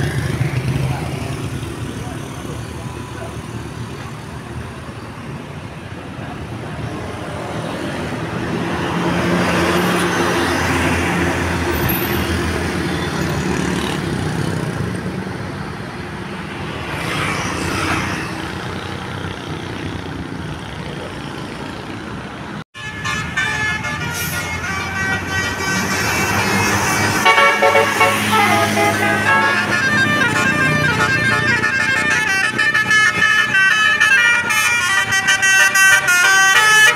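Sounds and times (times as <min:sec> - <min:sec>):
road noise: 0:00.0 - 0:36.9.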